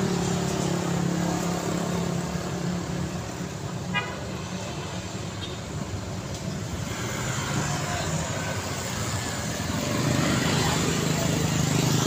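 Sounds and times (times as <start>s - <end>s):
motorcycle engines: 0.0s - 12.0s
tyre noise on road: 0.0s - 12.0s.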